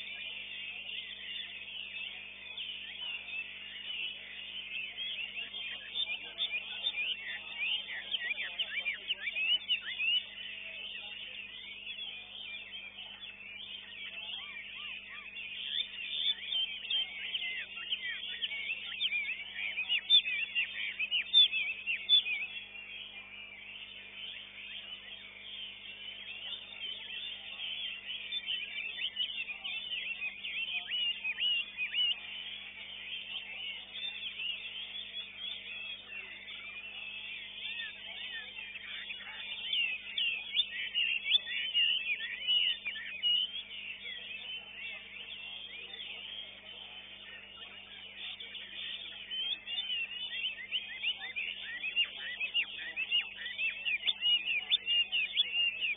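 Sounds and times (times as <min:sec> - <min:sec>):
faint steady hum: 0:00.0 - 0:54.1
bird singing whistled notes: 0:00.0 - 0:55.9
songbirds chirping: 0:00.0 - 0:55.9.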